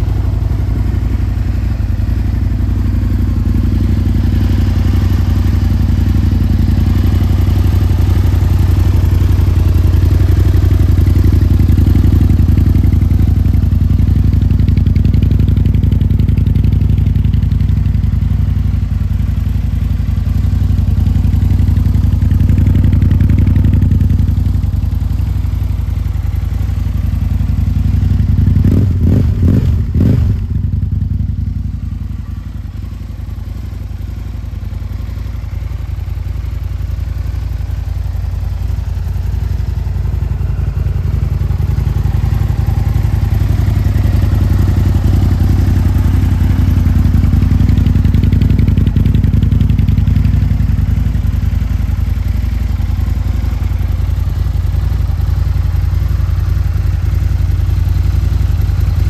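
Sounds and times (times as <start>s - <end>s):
motorcycle engine deep idle: 0.0s - 59.0s.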